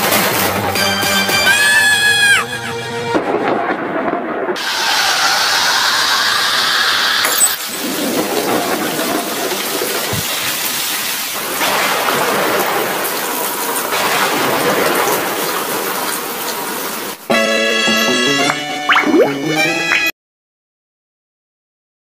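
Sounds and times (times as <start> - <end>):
heavy rain: 0.0 - 18.5.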